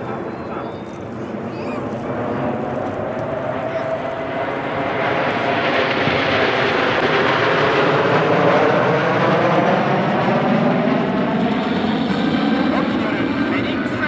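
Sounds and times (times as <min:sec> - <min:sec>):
jet aircraft flying past: 0:00.0 - 0:14.0.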